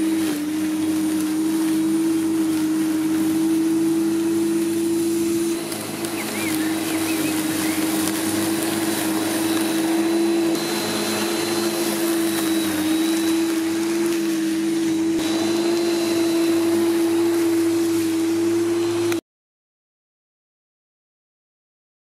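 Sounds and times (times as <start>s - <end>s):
electric lawnmower cutting grass: 0.0s - 19.2s.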